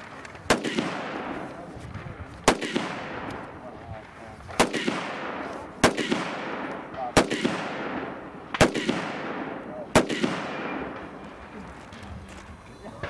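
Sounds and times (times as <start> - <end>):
rifle shots with echo: 0.0 - 11.6.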